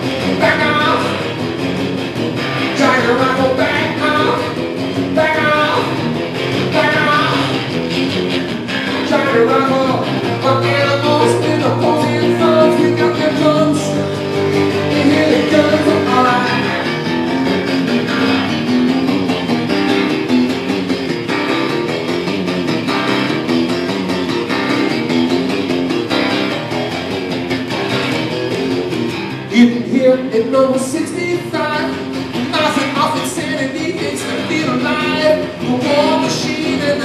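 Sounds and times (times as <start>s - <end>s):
acoustic guitar strummed hard: 0.0s - 37.0s.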